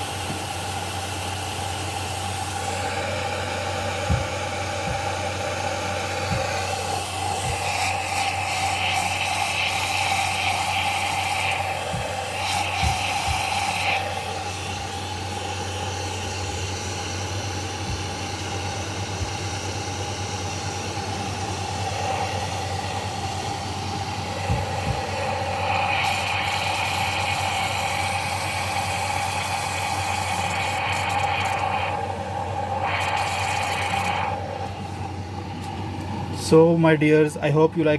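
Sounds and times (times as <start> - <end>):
coffee machine hiss: 0.0 - 37.3
coffee machine humming: 0.0 - 37.9.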